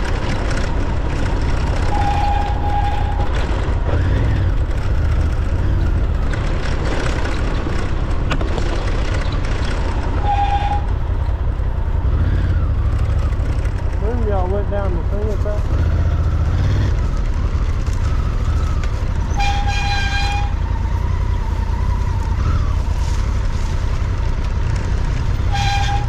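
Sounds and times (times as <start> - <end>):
off-road vehicle engine: 0.0 - 26.0.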